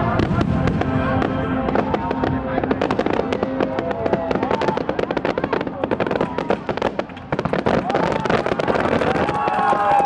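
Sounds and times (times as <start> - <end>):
firework shell bursts and crackles: 0.2 - 9.8.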